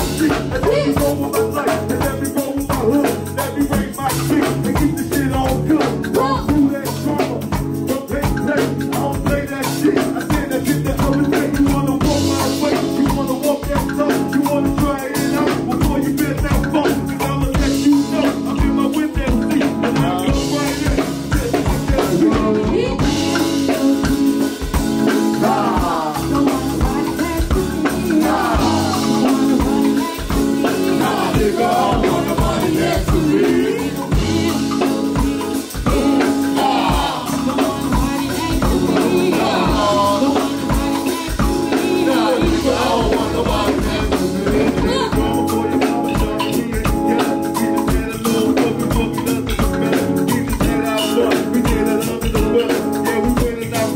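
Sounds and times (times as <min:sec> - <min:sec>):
drum kit: 0:00.0 - 0:53.9
hand percussion: 0:00.0 - 0:53.9
people singing: 0:00.0 - 0:53.9.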